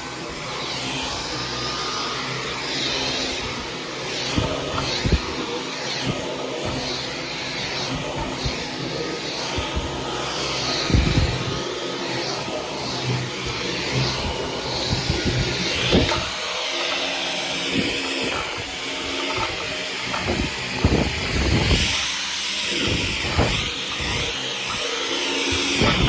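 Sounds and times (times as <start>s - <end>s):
stick vacuum running over carpet: 0.0s - 26.0s.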